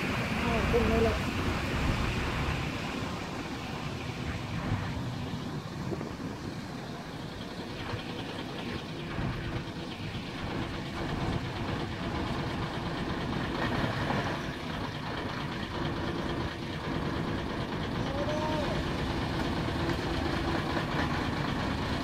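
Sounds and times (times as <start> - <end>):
fire truck diesel engine: 0.0 - 22.0.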